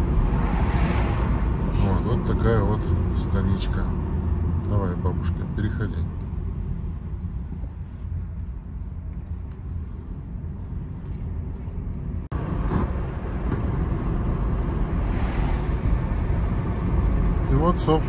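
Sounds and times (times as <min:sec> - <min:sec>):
road and tyre noise in car cabin: 0:00.0 - 0:18.0.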